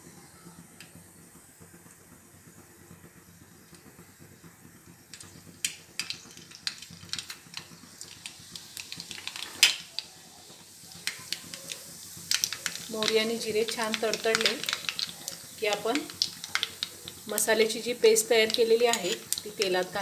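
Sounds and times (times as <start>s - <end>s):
seeds spluttering in hot oil: 0.6s - 20.0s.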